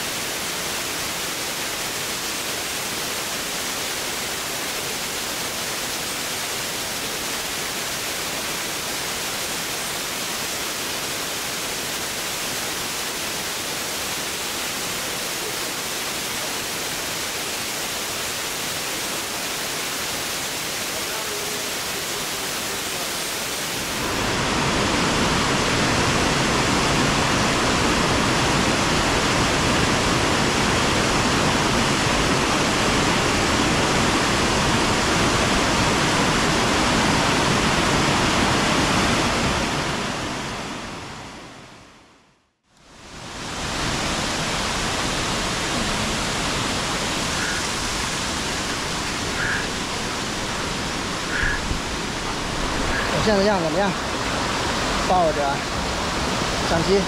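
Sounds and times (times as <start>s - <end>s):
waterfall rushing: 0.0s - 41.3s, 42.9s - 57.0s.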